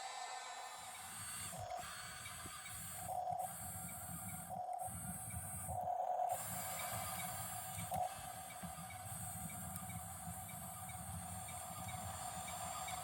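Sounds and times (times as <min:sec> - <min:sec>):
toy bulldozer motors whining: 0:00.0 - 0:13.0.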